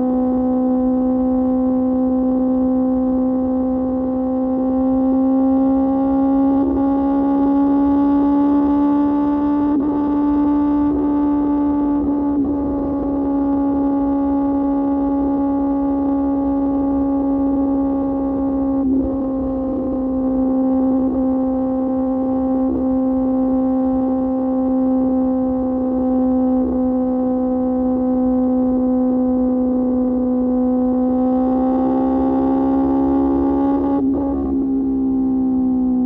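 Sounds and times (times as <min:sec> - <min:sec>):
motorcycle engine droning: 0:00.0 - 0:36.0.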